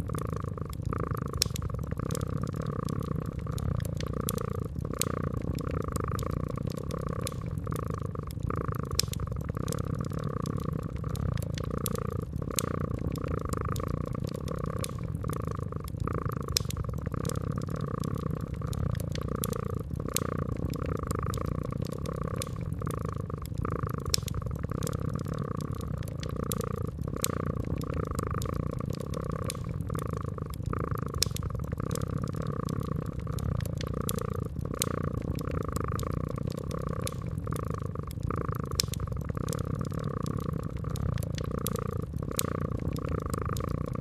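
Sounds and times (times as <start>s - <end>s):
cat purring: 0.0s - 44.0s
wood fire crackling and popping: 0.0s - 44.0s.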